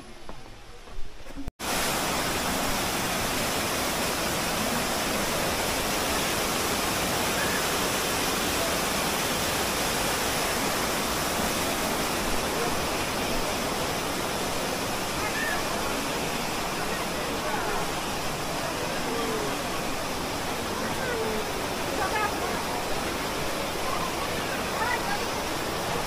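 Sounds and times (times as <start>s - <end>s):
waterfall rushing: 1.6s - 26.0s.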